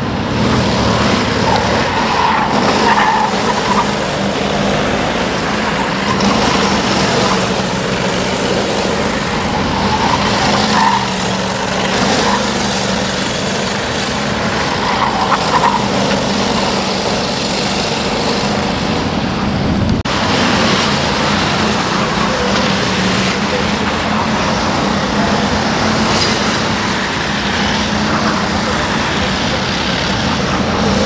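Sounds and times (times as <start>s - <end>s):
kart engines passing: 0.0s - 31.0s.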